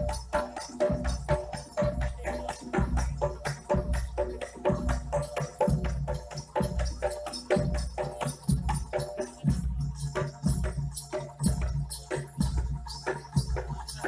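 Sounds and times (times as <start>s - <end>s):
drums and gongs beating: 0.0s - 14.0s
jingling percussion: 0.0s - 14.0s.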